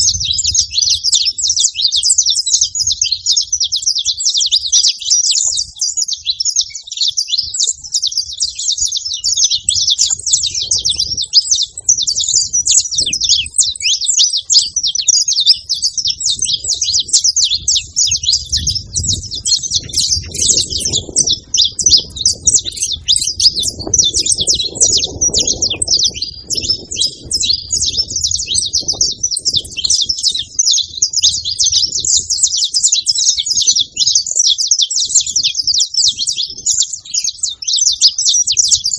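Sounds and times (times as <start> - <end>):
finch singing rapid chirps: 0.0 - 38.9.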